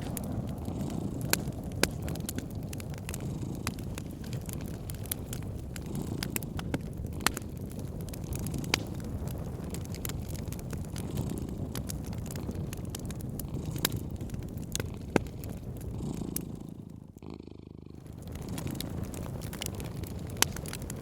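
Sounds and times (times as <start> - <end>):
cat purring: 0.0 - 21.0
wood fire crackling: 0.0 - 21.0.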